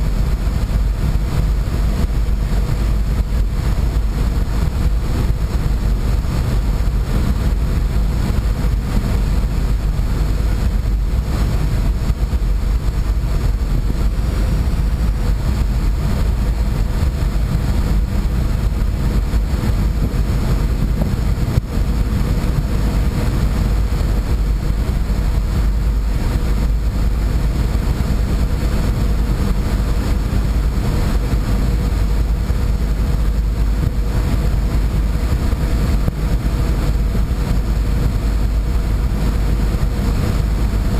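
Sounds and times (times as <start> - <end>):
boat engines droning: 0.0 - 40.9.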